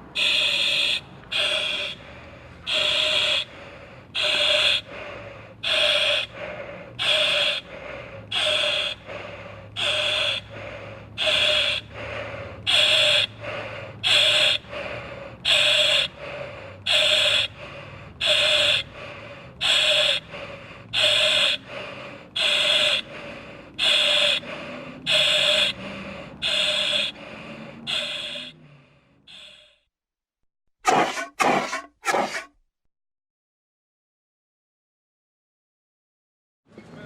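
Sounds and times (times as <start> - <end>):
person breathing hard: 0.0 - 29.9, 30.9 - 32.5.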